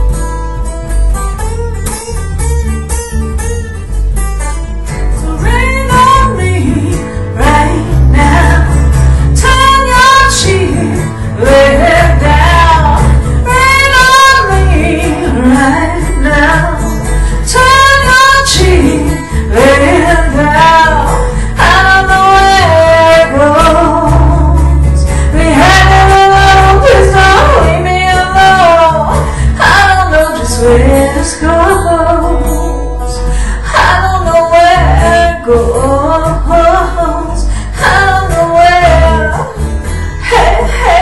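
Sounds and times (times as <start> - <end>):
second guitar: 0.0 - 41.0
strummed acoustic guitar: 0.0 - 41.0
woman singing with vibrato: 5.2 - 41.0.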